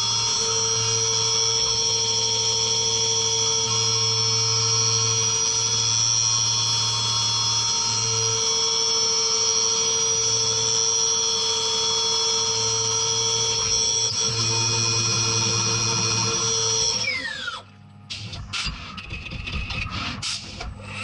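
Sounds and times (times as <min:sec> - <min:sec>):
milling spindle whine: 0:00.0 - 0:17.8.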